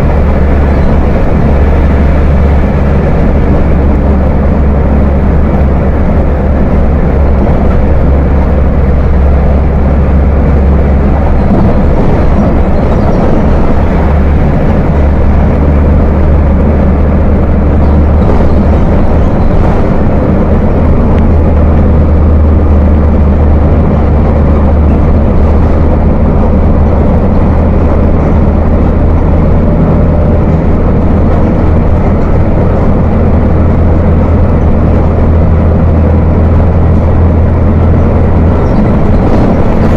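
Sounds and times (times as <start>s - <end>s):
bus engine deep rumble: 0.0s - 39.9s.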